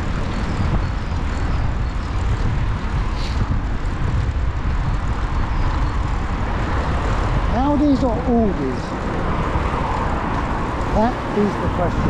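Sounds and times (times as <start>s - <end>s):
car traffic: 0.0s - 12.0s
continuous low rumble: 0.0s - 12.0s.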